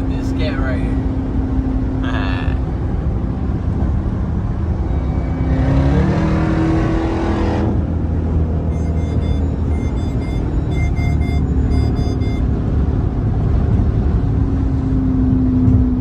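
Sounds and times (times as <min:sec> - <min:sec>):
car engine drone inside cabin: 0:00.0 - 0:16.0.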